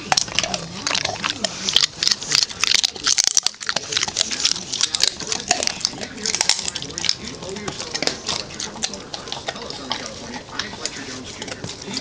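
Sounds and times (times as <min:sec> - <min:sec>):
dog chewing food: 0:00.0 - 0:12.0.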